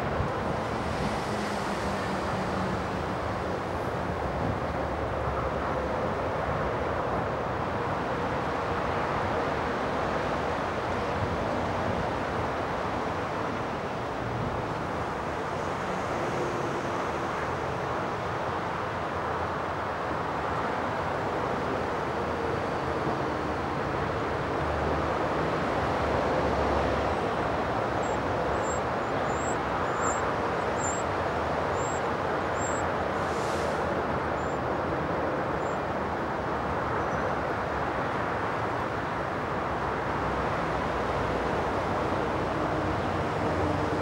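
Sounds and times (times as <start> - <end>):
distant road traffic noise: 0.0 - 44.0.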